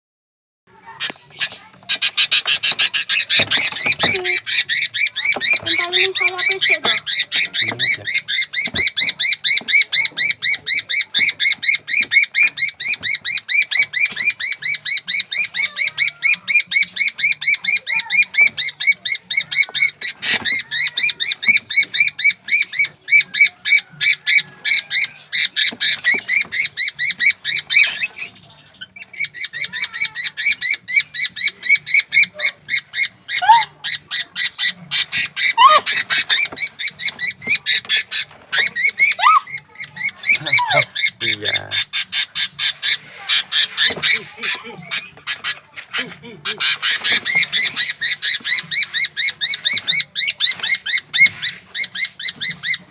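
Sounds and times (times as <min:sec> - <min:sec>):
baby bird chirping rapidly: 0:00.8 - 0:52.9.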